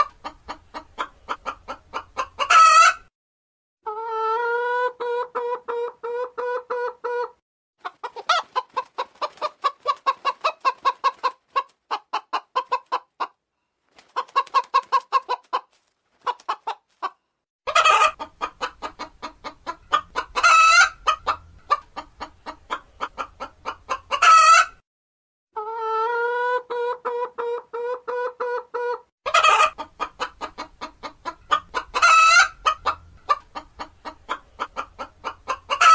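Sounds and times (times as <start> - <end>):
hen clucking and squawking: 0.0 - 3.1, 3.8 - 13.4, 14.0 - 24.8, 25.6 - 35.9.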